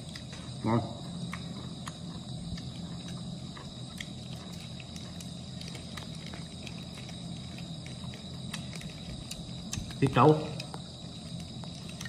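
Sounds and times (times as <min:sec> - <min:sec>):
man chewing food: 0:00.0 - 0:10.0, 0:10.6 - 0:12.0.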